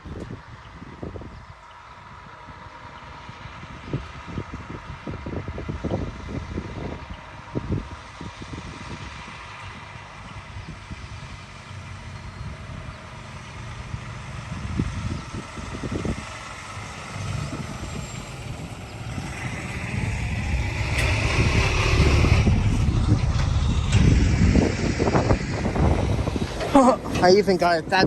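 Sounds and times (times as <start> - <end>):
road vehicle passing by: 1.8 - 28.0.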